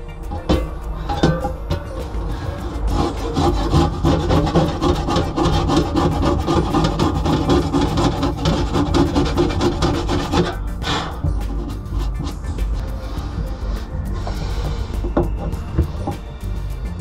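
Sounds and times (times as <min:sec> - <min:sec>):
saw strokes on wood: 0:01.5 - 0:17.0.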